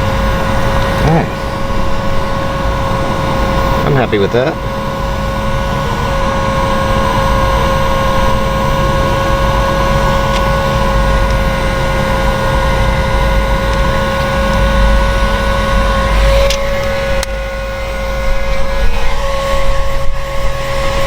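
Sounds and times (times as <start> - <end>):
heat gun whining: 0.0 - 21.0.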